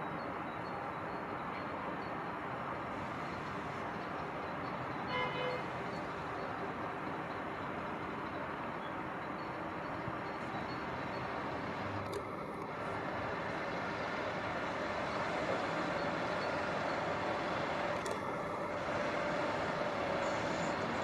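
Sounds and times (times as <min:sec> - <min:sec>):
faint hydraulic whine: 0:00.1 - 0:21.0
hydraulic crane mechanical drone: 0:00.4 - 0:21.0.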